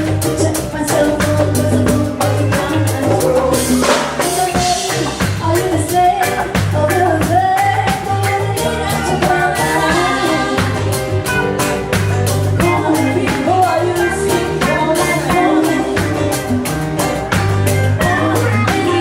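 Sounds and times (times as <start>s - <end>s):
band music with singer: 0.0s - 19.0s.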